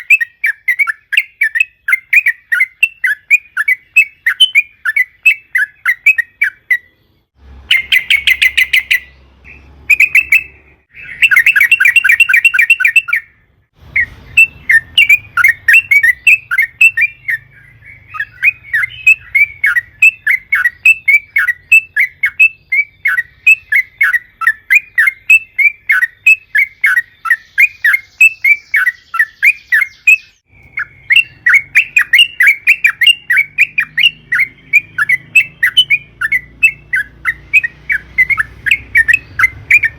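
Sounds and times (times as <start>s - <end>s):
fast bird trills: 0.0s - 7.0s, 7.7s - 39.9s
bird chirping: 0.0s - 39.9s.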